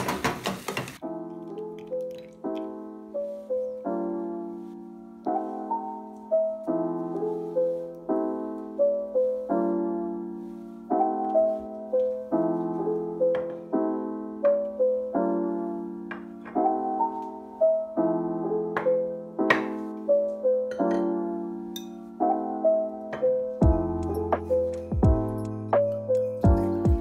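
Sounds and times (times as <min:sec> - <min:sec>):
slow gentle piano music: 0:01.0 - 0:27.0.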